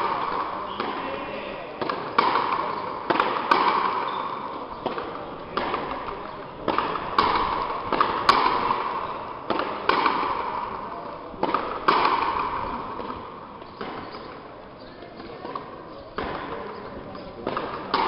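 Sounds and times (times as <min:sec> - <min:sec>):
ball hitting wall with echo: 0:00.0 - 0:18.0.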